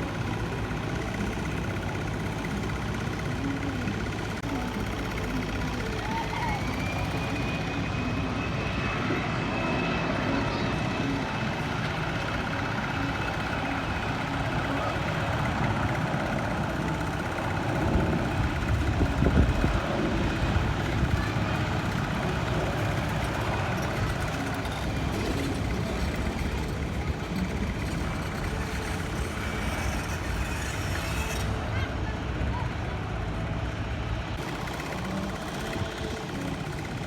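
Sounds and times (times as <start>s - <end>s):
broad noise: 0.0s - 37.0s
engine rumble: 0.0s - 37.0s.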